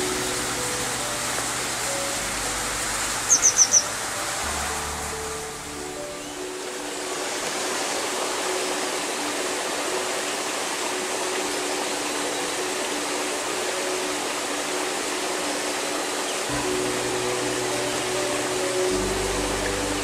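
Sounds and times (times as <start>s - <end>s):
soft background music: 0.0s - 20.0s
steady rushing hiss: 0.0s - 20.0s.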